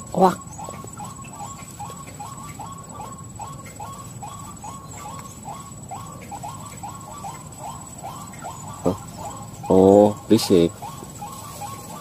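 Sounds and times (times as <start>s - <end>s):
waterhen calling kru-ak: 0.0s - 12.0s.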